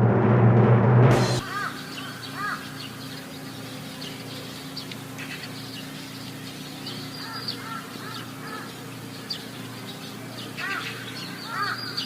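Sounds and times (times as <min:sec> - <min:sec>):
steady low hum: 0:00.0 - 0:12.0
arched bird calls: 0:01.2 - 0:12.0
birds chirping: 0:01.2 - 0:12.0.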